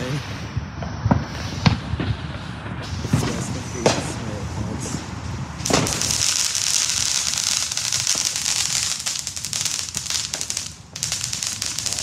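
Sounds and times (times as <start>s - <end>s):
firework bang: 0.0s - 12.0s
fireworks crackling pops: 0.0s - 12.0s.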